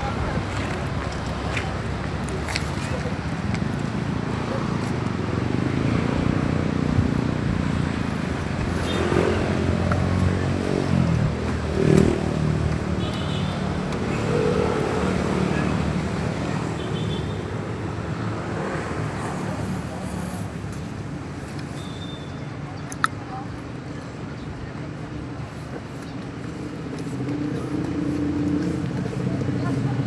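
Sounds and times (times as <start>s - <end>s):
vehicles passing on road: 0.0s - 30.0s.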